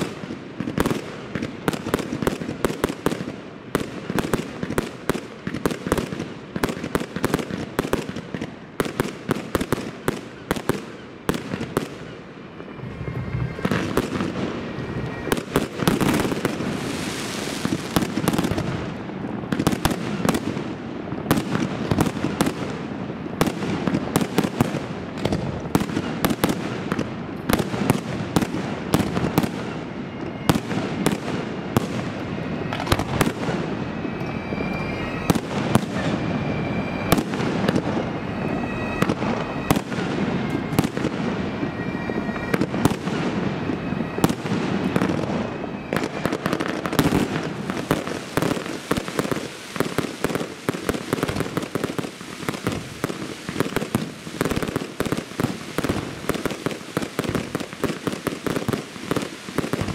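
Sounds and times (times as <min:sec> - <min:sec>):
dense firework crackle: 0:00.0 - 0:59.9
firework whistling: 0:00.0 - 0:59.9.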